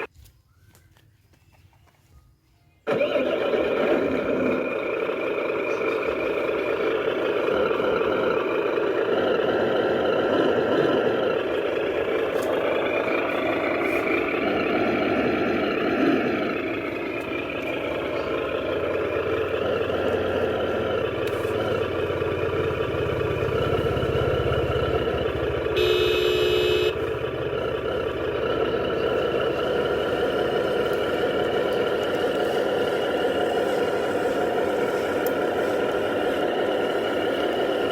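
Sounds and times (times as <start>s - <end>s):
electric motors whining: 2.9s - 37.9s.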